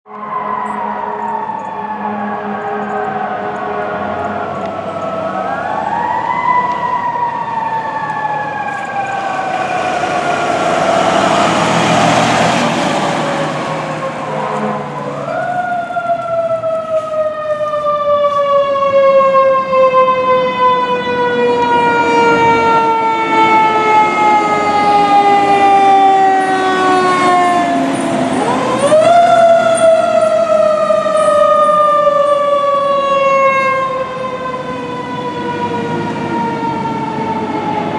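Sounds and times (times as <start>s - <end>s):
fire engine siren winding: 0.1s - 37.9s.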